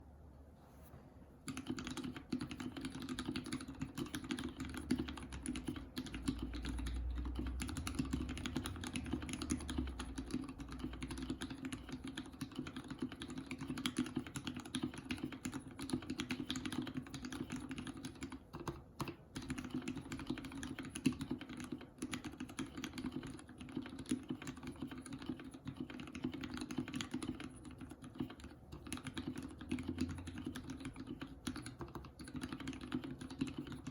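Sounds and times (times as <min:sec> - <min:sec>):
mechanical keyboard typing: 0:01.4 - 0:33.9.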